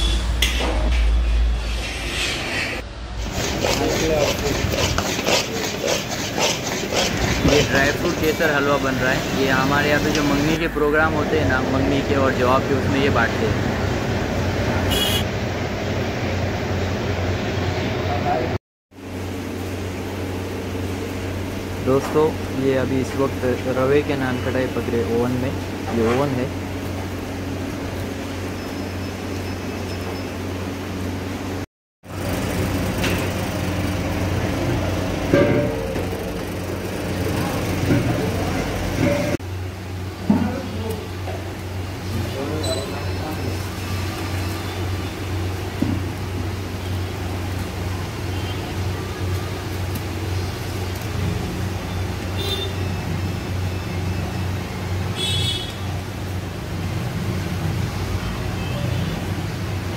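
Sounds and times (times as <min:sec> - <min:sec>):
oven machine hum: 0:06.4 - 0:59.9.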